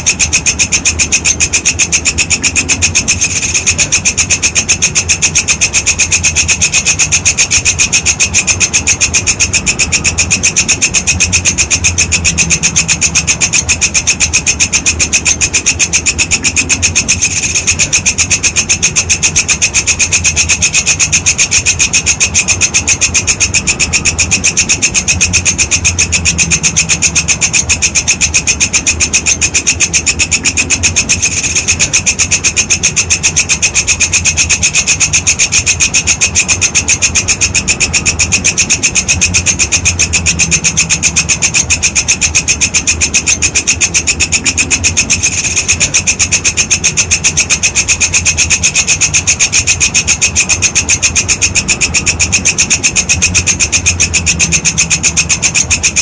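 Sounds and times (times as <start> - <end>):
insect stridulating: 0.0 - 56.0.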